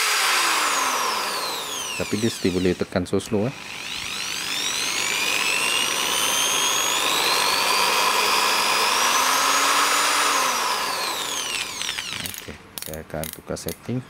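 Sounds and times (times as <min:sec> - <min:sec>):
electric polisher motor whine: 0:00.0 - 0:02.9, 0:03.6 - 0:12.4.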